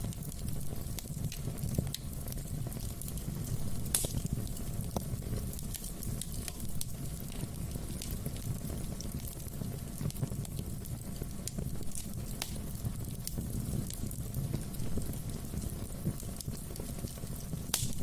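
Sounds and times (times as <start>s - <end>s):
fire crackling and popping: 0.0s - 18.0s
fire flame rumbling: 0.0s - 18.0s.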